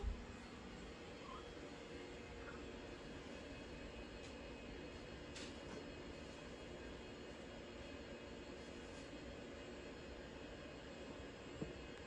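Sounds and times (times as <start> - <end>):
faint background hum and hiss: 0.0 - 12.0.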